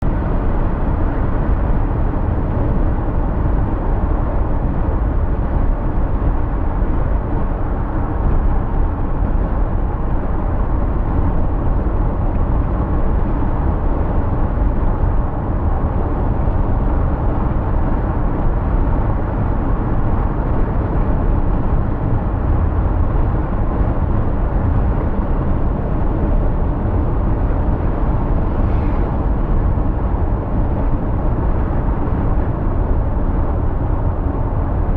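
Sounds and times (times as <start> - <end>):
road and tyre noise: 0.0 - 34.9.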